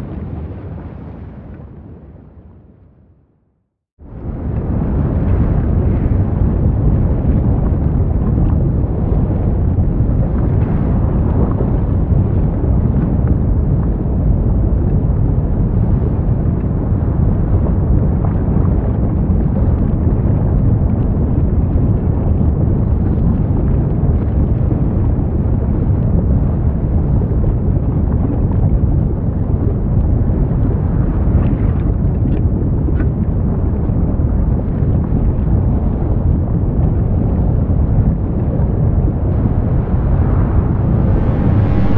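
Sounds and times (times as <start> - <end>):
low rumble of lava crater: 0.0 - 41.9.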